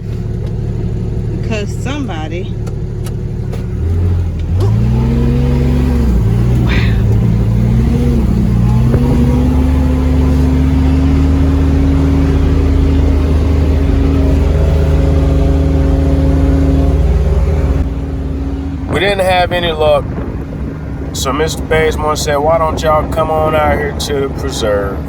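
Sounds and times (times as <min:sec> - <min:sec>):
vehicle engine accelerating: 0:00.0 - 0:25.0.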